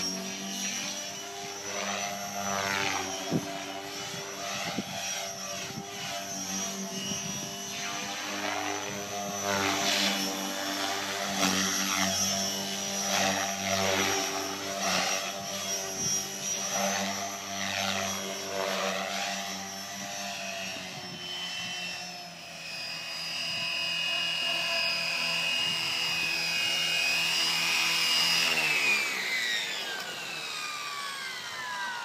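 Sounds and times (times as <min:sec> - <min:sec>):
rc helicopter motor and rotor whine: 0:00.0 - 0:32.0.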